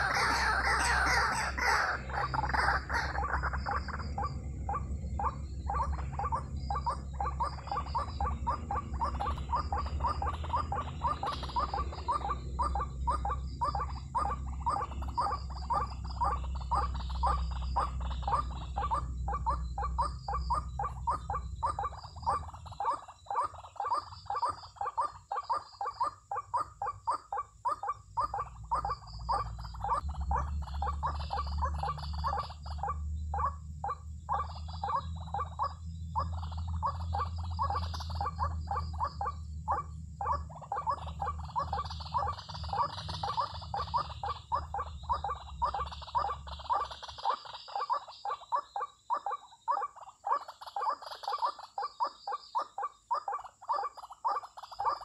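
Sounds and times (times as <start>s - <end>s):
waterhen croaking calls: 0.0s - 55.0s.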